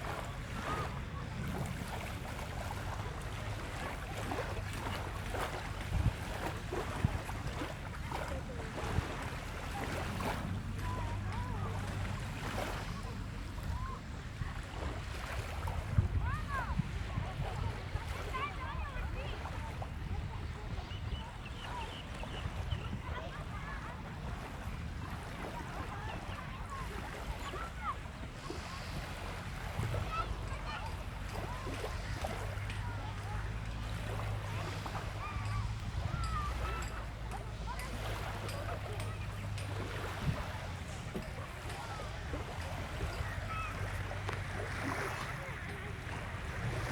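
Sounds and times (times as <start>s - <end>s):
faint distant voices: 0.0s - 46.9s
surf: 0.0s - 46.9s
wind: 0.0s - 46.9s.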